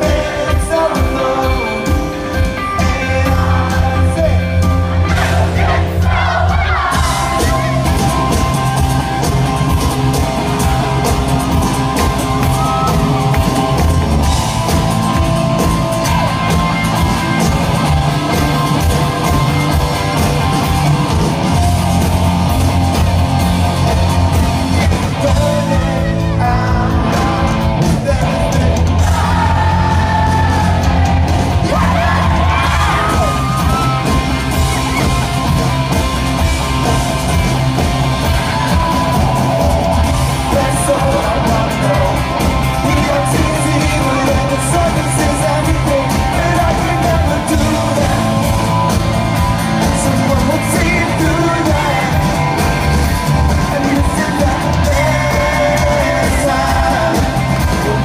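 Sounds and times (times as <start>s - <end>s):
live rock band playing: 0.0s - 58.0s
audience yelling and whooping: 2.6s - 58.0s.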